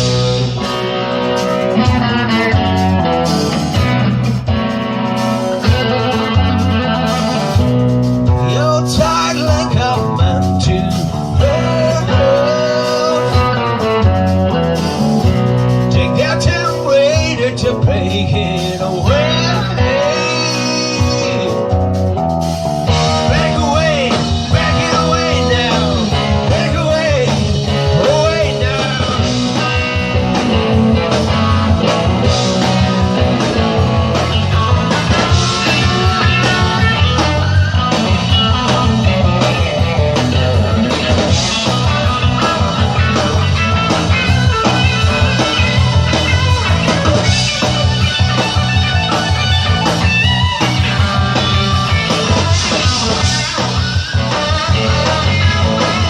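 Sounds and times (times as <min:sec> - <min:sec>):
electric guitar bending notes: 0:00.0 - 0:56.0
rock band playing: 0:00.0 - 0:56.0.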